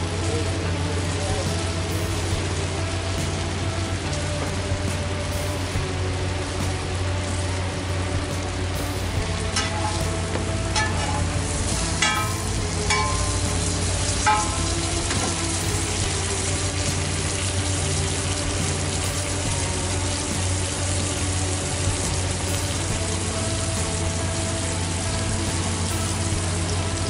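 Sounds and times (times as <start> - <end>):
buns sizzling on a griddle: 0.0 - 27.0.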